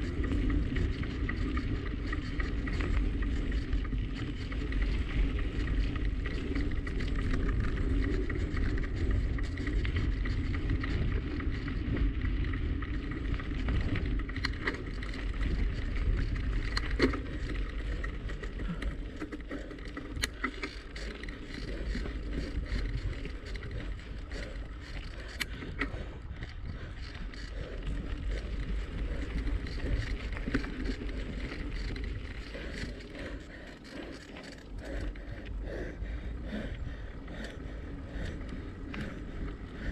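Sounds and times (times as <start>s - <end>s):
bicycle clicks and rattles: 0.0s - 39.9s
bicycle tyres rolling on pavement: 0.0s - 39.9s.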